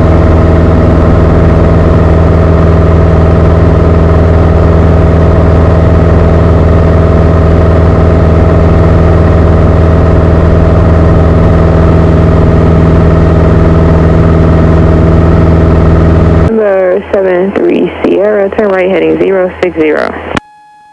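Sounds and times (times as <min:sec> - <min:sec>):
aircraft engine and propeller droning: 0:00.0 - 0:20.4.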